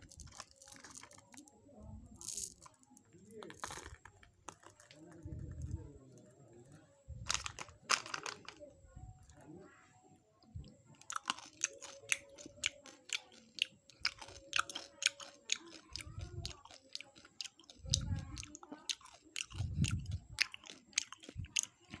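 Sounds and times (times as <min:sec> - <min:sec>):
candy crunching: 0:00.0 - 0:08.7, 0:10.9 - 0:22.0.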